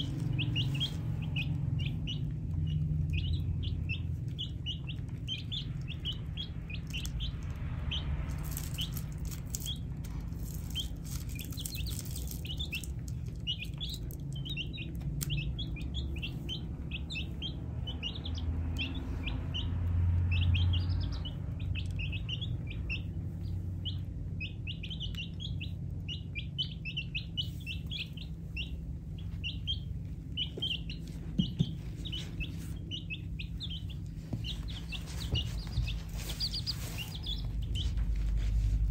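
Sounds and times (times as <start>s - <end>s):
baby chicks peeping: 0.0s - 38.9s
low steady hum: 0.0s - 38.9s.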